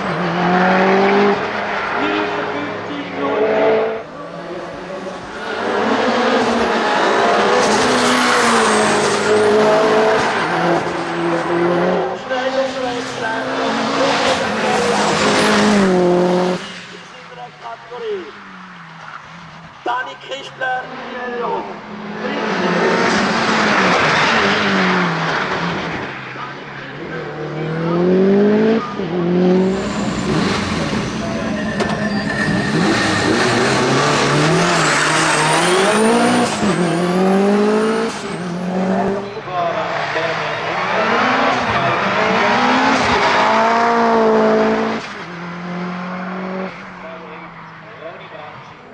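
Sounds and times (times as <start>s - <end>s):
car engine at full throttle shifting gears: 0.0s - 17.2s, 21.6s - 48.9s.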